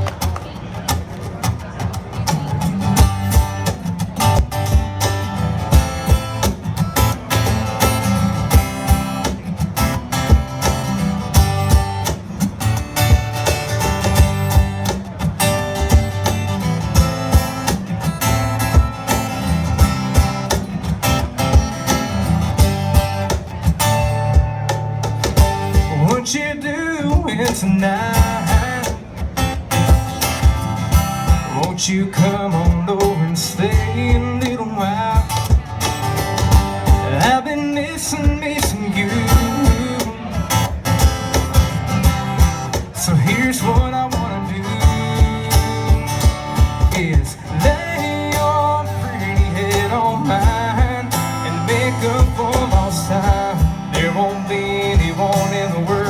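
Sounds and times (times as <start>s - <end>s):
live country band playing: 0.0s - 56.0s.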